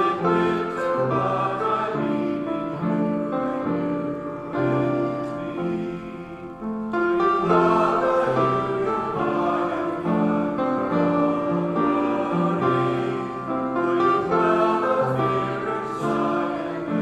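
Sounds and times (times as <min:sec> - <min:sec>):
congregation singing a hymn: 0:00.0 - 0:17.0.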